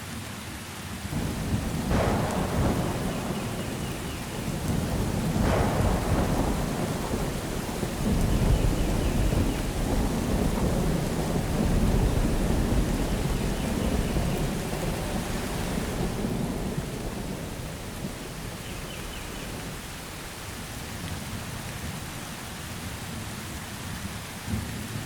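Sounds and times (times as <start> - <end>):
steady rain: 0.0 - 25.0
thunder rumbling: 1.1 - 25.0.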